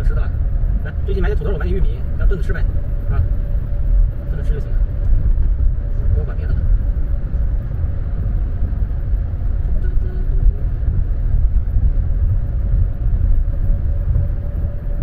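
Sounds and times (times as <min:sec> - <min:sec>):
car engine: 0:00.0 - 0:15.0
faint steady hum: 0:00.0 - 0:15.0.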